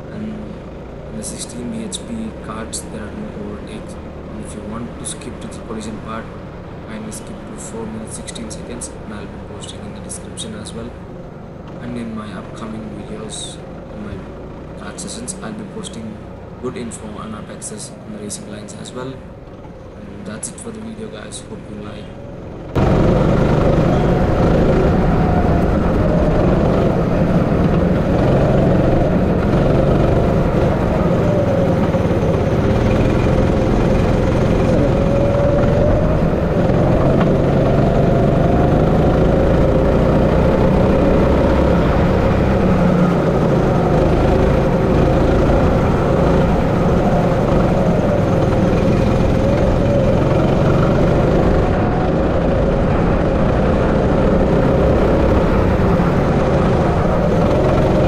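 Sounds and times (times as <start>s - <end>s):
go-kart engine revving: 0.0s - 58.0s
steady rushing noise: 0.0s - 58.0s.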